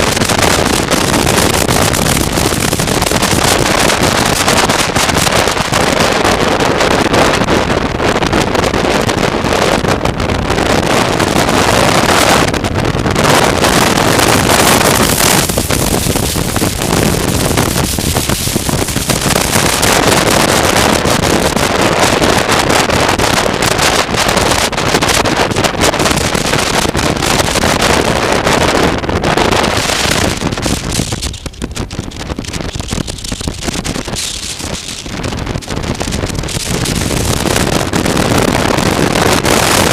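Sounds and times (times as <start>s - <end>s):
road and engine noise: 0.0s - 39.9s
wind buffeting microphone: 0.0s - 39.9s.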